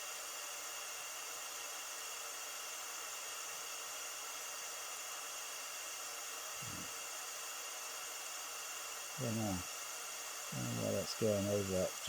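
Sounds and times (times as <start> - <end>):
pink noise hiss from speakers: 0.0 - 12.0.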